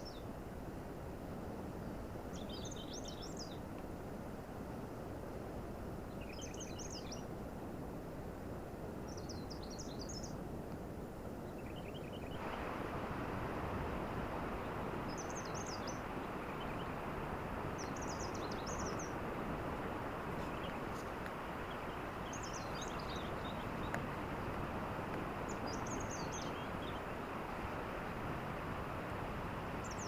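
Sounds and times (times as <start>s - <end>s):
rushing night beach ambience: 0.0s - 30.0s.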